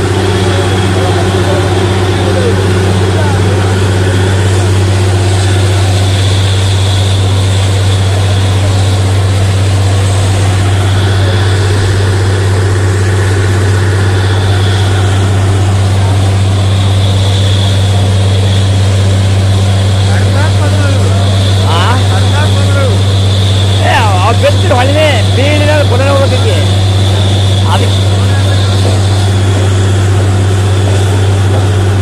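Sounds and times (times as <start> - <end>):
drilling rig engine drone: 0.0 - 32.0.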